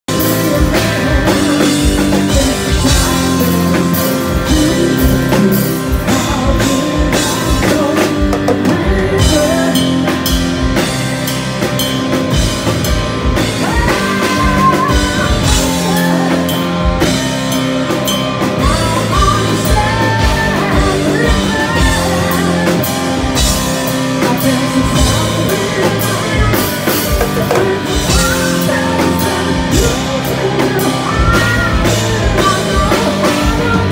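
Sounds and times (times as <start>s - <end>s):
man singing: 0.0s - 11.0s, 13.3s - 33.9s
distorted electric guitar: 0.0s - 33.9s
drum kit: 0.0s - 33.9s.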